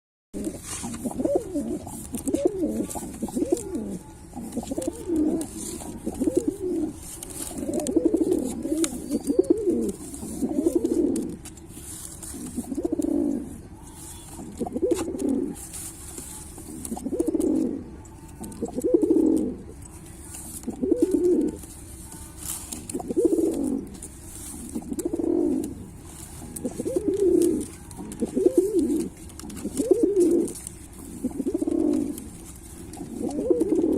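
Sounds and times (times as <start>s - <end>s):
pigeon cooing: 0.4s - 33.9s.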